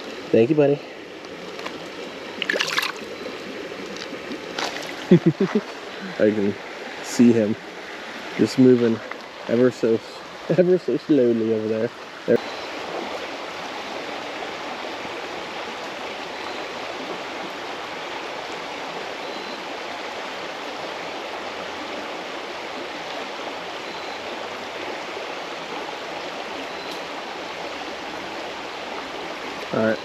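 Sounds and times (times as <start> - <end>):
creek running over stones: 0.0 - 30.0.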